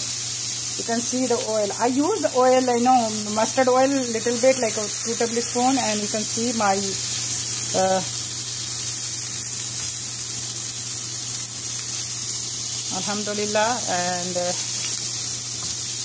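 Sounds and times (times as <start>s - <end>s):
kebabs sizzling in oil: 0.0s - 16.0s.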